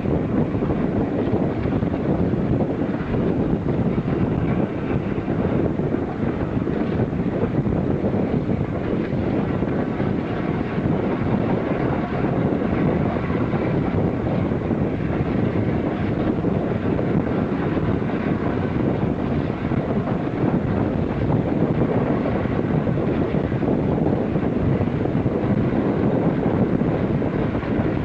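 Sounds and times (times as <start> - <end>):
low rumble: 0.0 - 28.0
wind buffeting microphone: 0.0 - 28.0.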